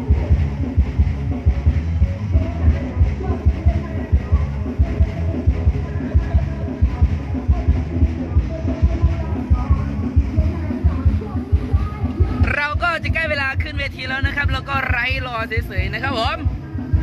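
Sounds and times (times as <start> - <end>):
heavy bass drum beat: 0.0 - 17.0.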